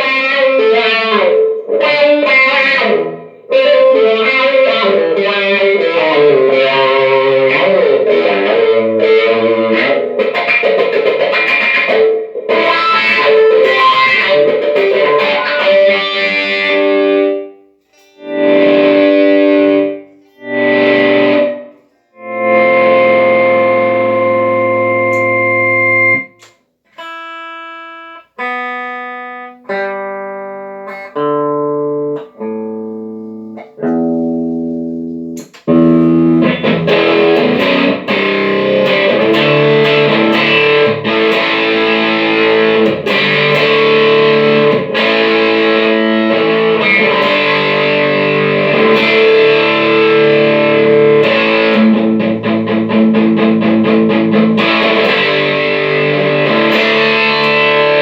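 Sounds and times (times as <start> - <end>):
electric guitar chords: 0.0 - 58.0.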